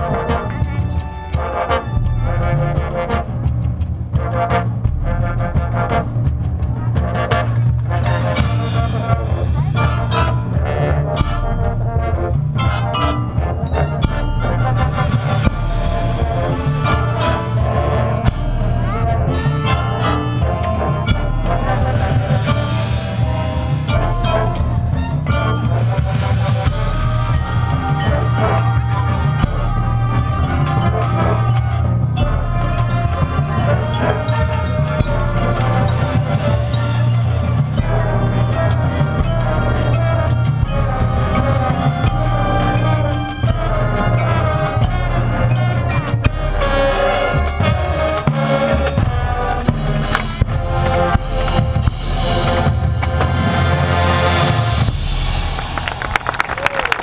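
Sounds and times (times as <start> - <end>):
brass chords: 0.0 - 57.0
drums: 0.0 - 57.0
marching band playing: 0.0 - 57.0.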